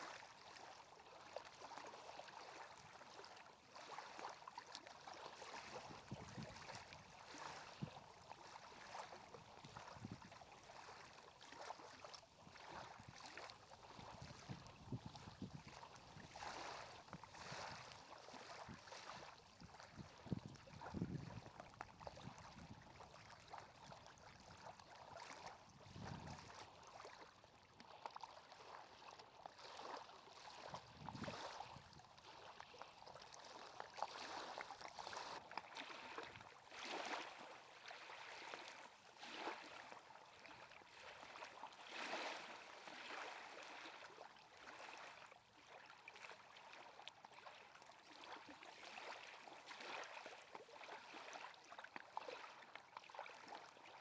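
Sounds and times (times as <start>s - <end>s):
water lapping and gurgling: 0.0s - 54.0s.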